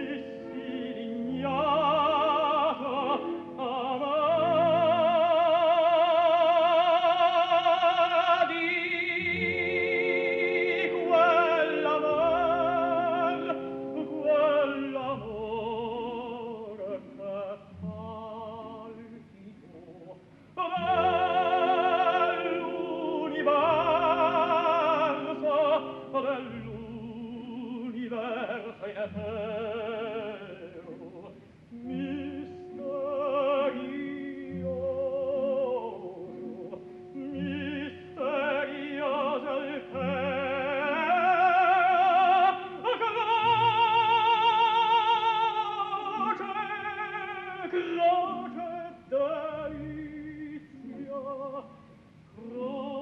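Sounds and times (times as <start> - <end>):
operatic singing: 0.0 - 53.0.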